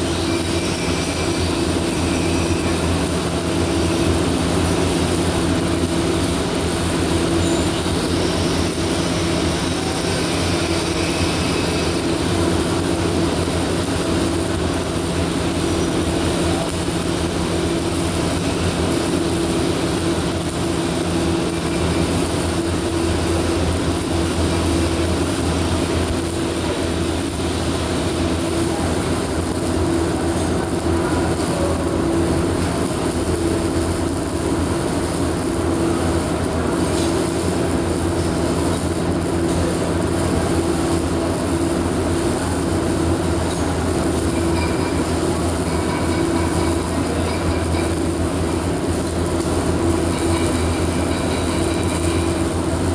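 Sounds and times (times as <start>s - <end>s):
machinery humming: 0.0s - 52.9s.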